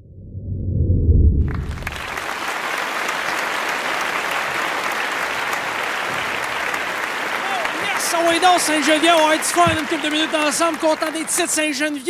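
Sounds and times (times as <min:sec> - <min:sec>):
large audience applauding: 0:01.5 - 0:12.0.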